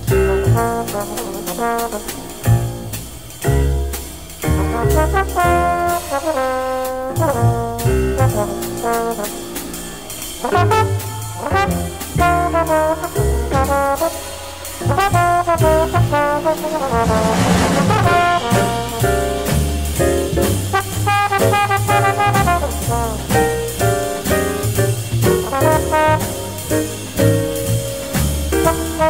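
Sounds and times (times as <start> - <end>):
upright bass: 0.0 - 9.4, 10.1 - 29.0
drums and cymbals: 0.0 - 29.0
brass horn solo: 0.1 - 3.0, 4.6 - 29.0.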